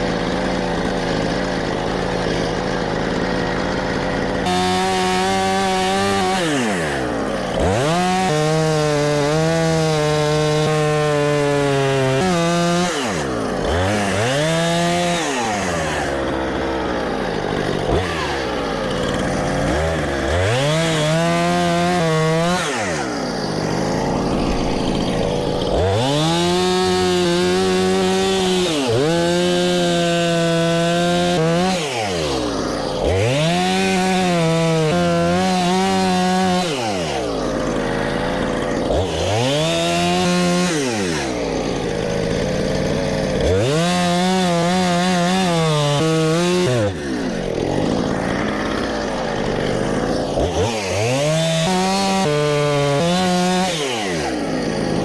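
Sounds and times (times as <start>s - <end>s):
chainsaw revving cutting log: 0.0s - 55.0s.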